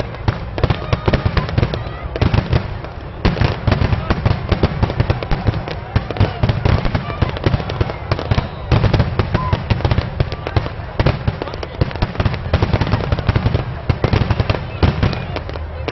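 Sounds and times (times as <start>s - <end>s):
fireworks bursts and crackles: 0.0s - 15.9s.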